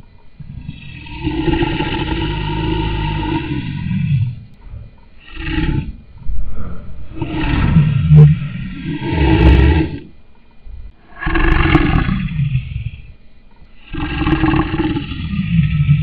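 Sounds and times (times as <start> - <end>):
lion roaring: 0.4 - 10.2, 11.1 - 13.2, 13.8 - 16.0.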